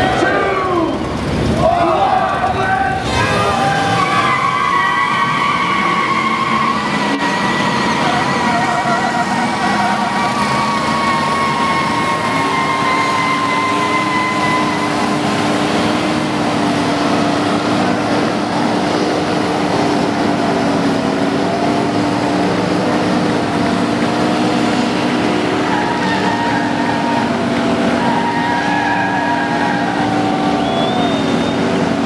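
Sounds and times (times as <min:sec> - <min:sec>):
many car engines revving: 0:00.0 - 0:32.0
tyres spinning: 0:00.0 - 0:32.0.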